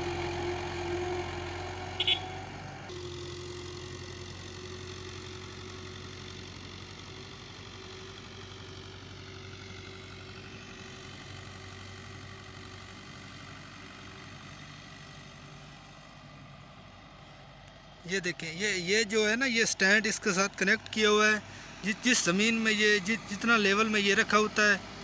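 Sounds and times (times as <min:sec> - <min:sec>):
tractor engine humming: 0:00.0 - 0:25.0.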